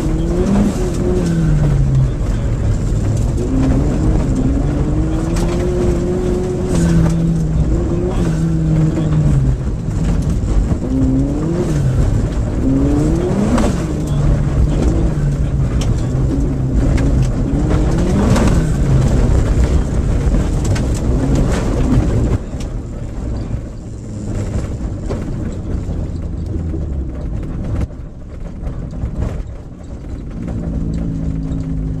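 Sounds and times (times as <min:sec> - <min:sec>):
rally car engine revving: 0:00.0 - 0:32.0
stones clicking against car underside: 0:00.2 - 0:32.0.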